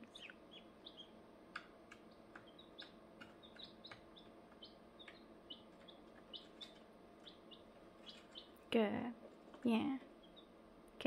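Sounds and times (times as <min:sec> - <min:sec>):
chicks peeping softly: 0:00.0 - 0:10.6.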